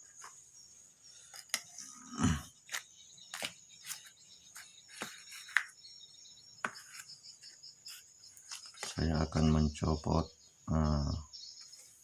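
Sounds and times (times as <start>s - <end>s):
high-pitched insect chirr: 0.0s - 12.0s.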